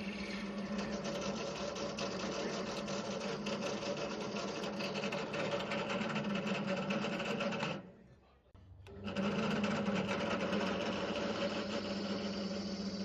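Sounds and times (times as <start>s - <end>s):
drill bit grinding ceramic: 0.0s - 7.8s, 8.9s - 13.0s
drill press motor running: 0.0s - 7.9s, 8.8s - 13.0s.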